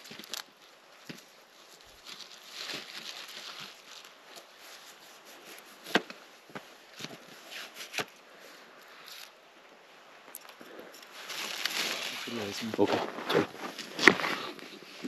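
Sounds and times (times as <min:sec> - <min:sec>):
rustling: 0:00.0 - 0:09.4, 0:10.3 - 0:15.0.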